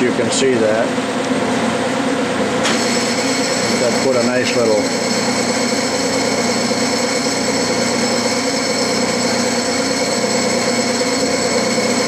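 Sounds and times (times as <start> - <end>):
metal lathe running: 1.7 - 12.0.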